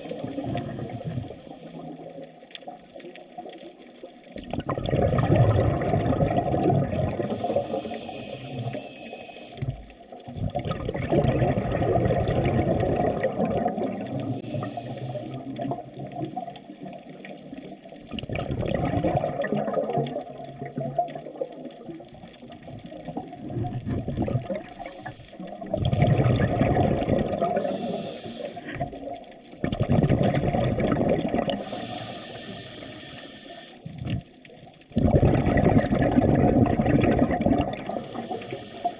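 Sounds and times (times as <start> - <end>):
muffled sea swells washing: 4.5 - 38.9.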